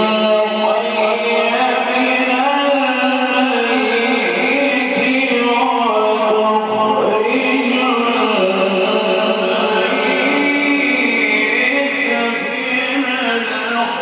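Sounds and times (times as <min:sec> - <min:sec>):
man chanting recitation: 0:00.0 - 0:14.0.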